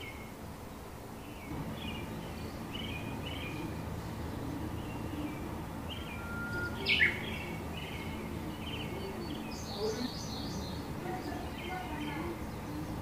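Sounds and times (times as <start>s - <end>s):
birds chirping and calling: 0.0s - 13.0s
steady low background noise: 0.0s - 13.0s.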